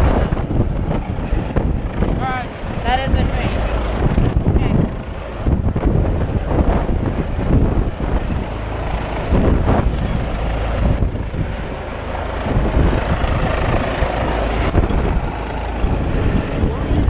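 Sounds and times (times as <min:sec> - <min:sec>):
helicopter rotor and engine: 0:00.0 - 0:17.0
wind buffeting microphone: 0:00.0 - 0:17.0.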